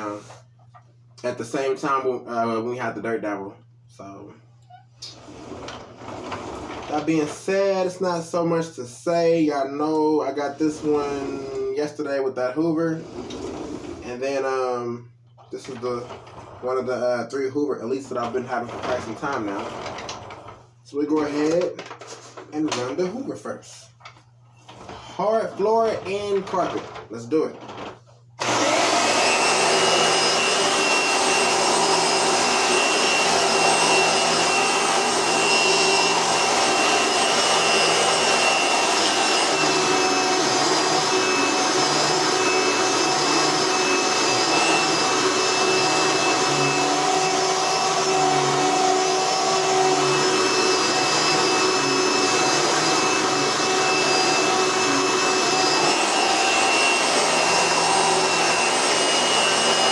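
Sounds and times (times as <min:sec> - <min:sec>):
vacuum cleaner running: 0:00.0 - 0:00.5, 0:05.0 - 0:21.9, 0:22.7 - 0:23.3, 0:24.1 - 0:59.9.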